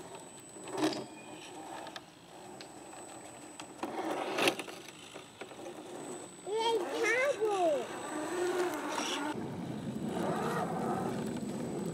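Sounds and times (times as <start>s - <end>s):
electric motor and gears whirring: 0.0s - 11.9s.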